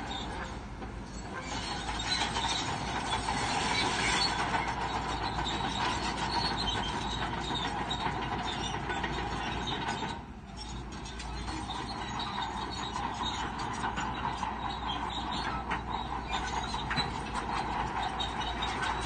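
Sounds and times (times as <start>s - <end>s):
bulldozer engine under load: 0.0s - 19.0s
steel tracks clanking and squealing: 0.0s - 19.0s.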